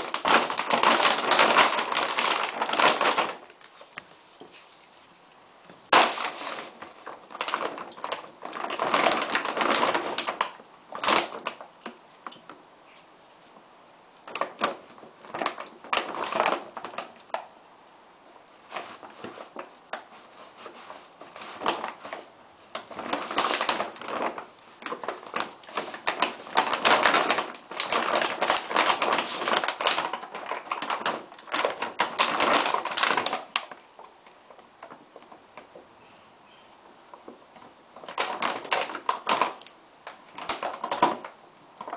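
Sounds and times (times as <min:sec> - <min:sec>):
feed bag crinkling and rustling: 0:00.0 - 0:12.3, 0:14.2 - 0:17.5, 0:18.6 - 0:35.8, 0:37.1 - 0:41.9.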